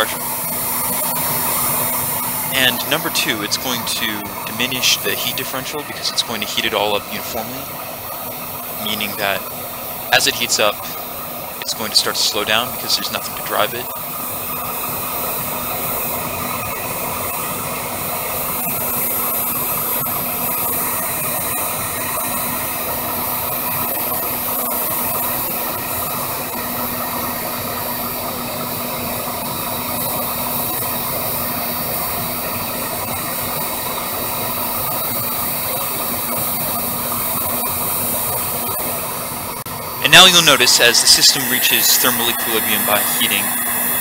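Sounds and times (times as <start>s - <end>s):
heat gun blowing air: 0.0s - 39.0s, 39.8s - 44.0s.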